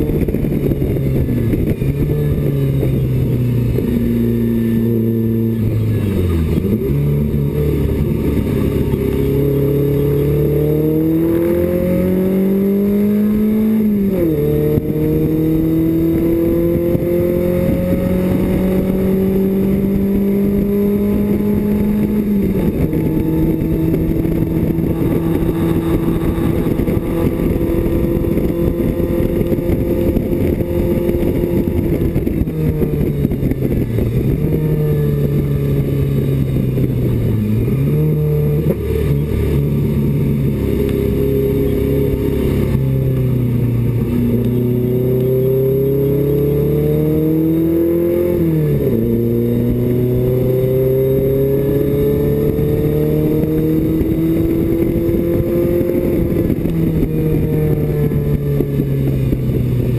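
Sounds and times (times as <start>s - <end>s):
race car engine revving through gears: 0.0s - 59.9s.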